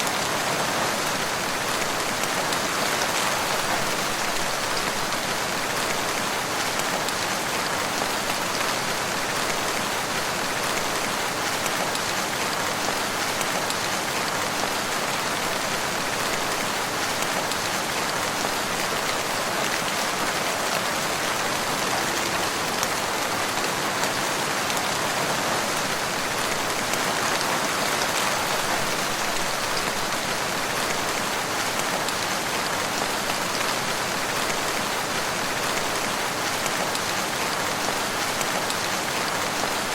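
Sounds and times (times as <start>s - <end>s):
steady rain on leaves: 0.0s - 39.9s.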